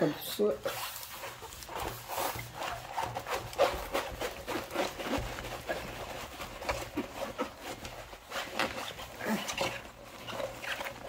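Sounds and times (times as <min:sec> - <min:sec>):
canvas rustling and crinkling: 0:00.0 - 0:11.0.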